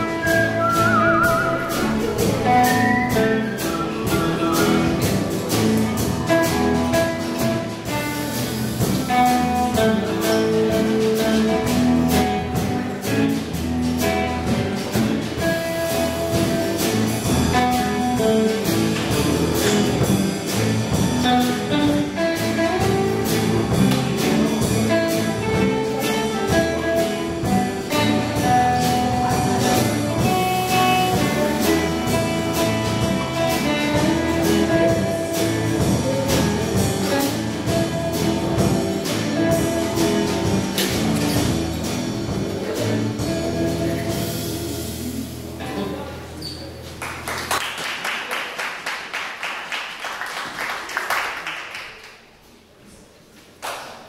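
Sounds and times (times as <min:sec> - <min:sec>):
drum kit steady beat: 0:00.0 - 0:45.4
electric guitars: 0:00.0 - 0:47.0
bass guitar: 0:00.0 - 0:47.6.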